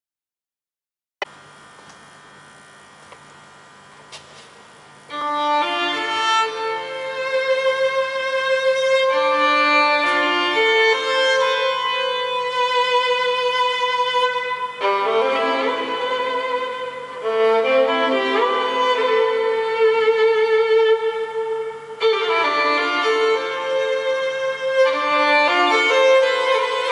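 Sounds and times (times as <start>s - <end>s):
solo violin playing slow melody: 5.1s - 26.9s.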